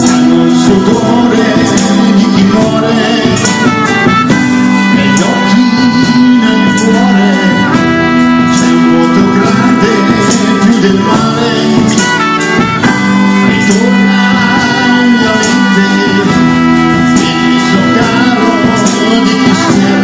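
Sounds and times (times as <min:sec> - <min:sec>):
live band playing: 0:00.0 - 0:20.0
person singing: 0:00.0 - 0:20.0
trumpet: 0:00.0 - 0:20.0.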